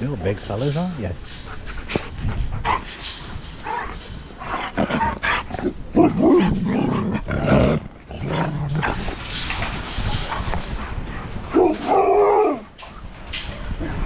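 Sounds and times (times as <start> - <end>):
dogs woofing and grumbling: 1.2 - 14.0.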